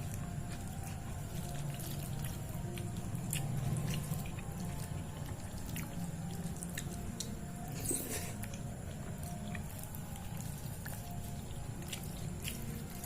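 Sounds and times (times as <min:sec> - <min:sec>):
wet chewing and mouth sounds: 0:00.0 - 0:13.0.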